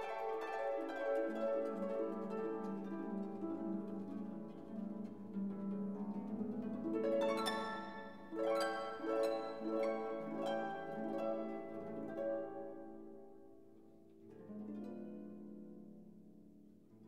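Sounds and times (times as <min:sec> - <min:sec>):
plucked harp-like music: 0:00.0 - 0:17.0.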